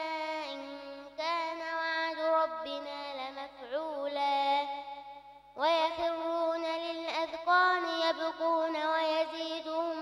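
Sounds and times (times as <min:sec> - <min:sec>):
girl chanting melodically: 0:00.0 - 0:10.0.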